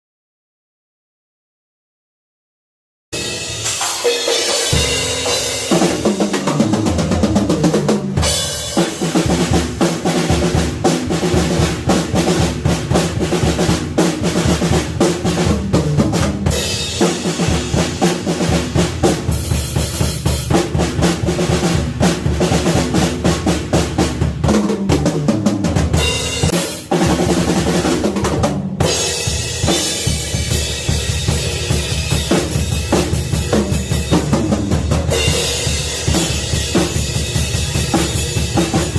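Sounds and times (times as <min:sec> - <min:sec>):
drum kit groove: 0:03.2 - 0:38.9.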